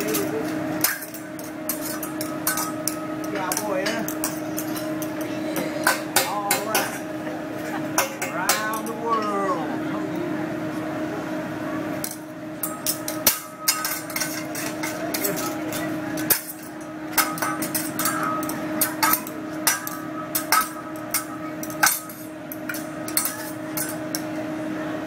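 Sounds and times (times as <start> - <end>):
metal spatula and fork clacking: 0.0 - 7.1, 7.9 - 9.4, 12.0 - 24.4
utensils tapping on steel griddle: 0.0 - 7.1, 7.9 - 9.4, 12.0 - 24.5
steady low hum: 0.0 - 25.0.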